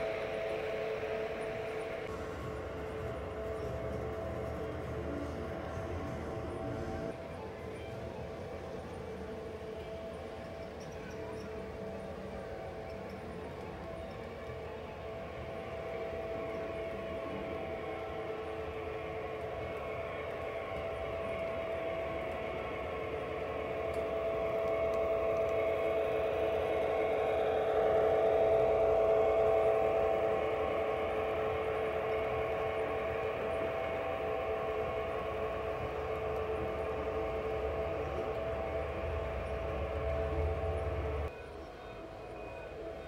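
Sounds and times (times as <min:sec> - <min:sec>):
model train motor hum and wheel rumble: 0:00.0 - 0:43.0.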